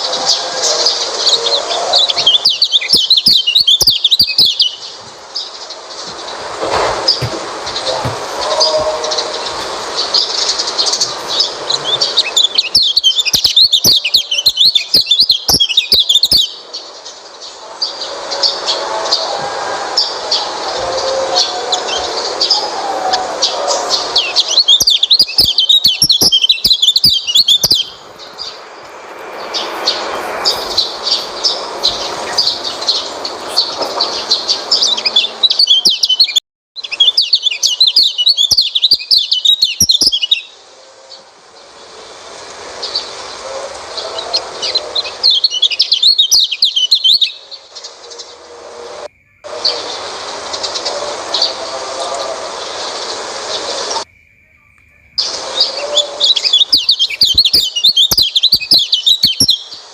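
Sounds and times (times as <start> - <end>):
songbird twittering: 0.0 - 19.3, 20.0 - 40.6, 42.8 - 48.4, 49.1 - 59.9.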